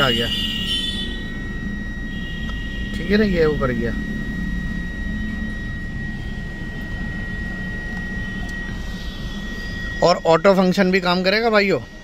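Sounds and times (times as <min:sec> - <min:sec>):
car cabin hum: 0:00.0 - 0:12.0
thin high-pitched whine: 0:00.0 - 0:12.0.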